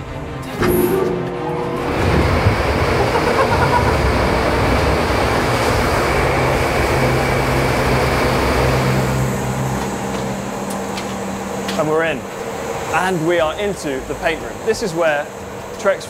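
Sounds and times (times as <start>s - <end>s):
air jets blowing: 1.9s - 15.7s.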